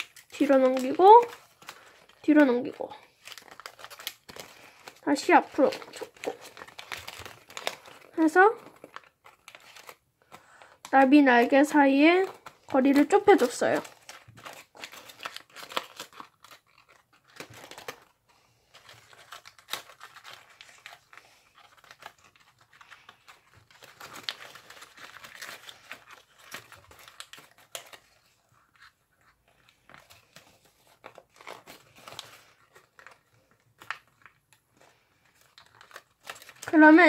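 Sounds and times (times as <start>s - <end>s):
paper crinkling and rustling: 0.0s - 37.0s.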